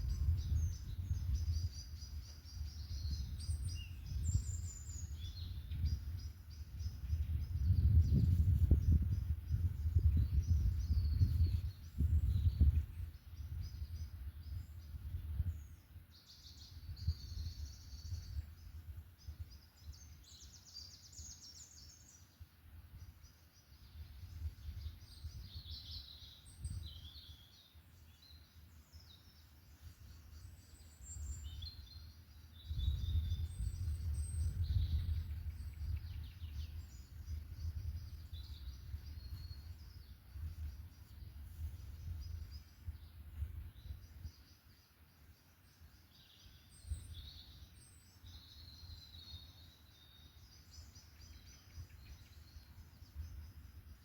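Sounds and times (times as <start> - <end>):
forest birds singing and calling: 0.0 - 54.0.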